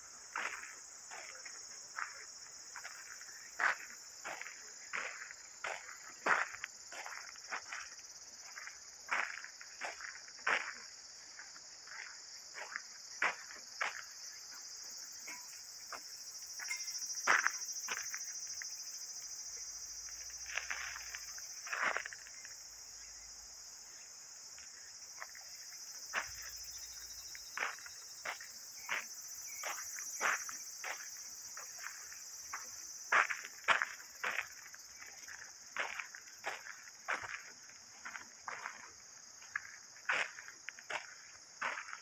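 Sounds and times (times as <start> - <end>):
footsteps on sandy dirt path: 0.0 - 42.0
insects chorus: 0.0 - 42.0.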